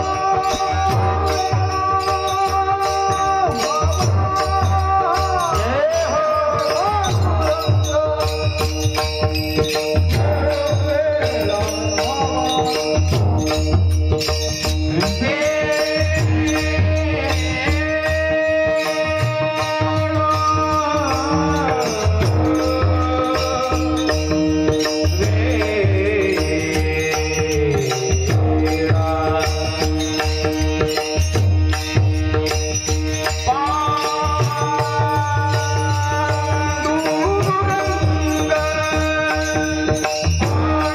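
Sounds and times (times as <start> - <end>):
drum beats: 0.0 - 40.9
metallic percussion strikes: 0.0 - 40.9.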